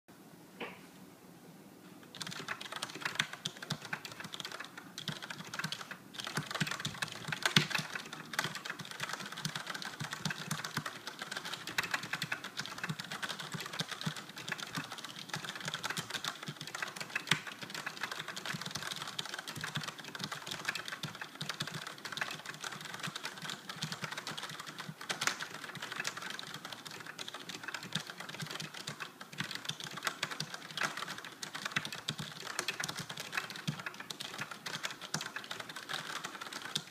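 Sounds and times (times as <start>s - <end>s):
mechanical keyboard typing: 2.1s - 36.9s.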